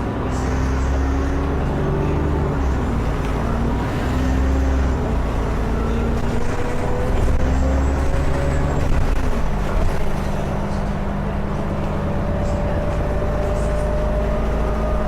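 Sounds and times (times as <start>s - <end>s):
bus diesel engine accelerating: 0.0s - 15.0s.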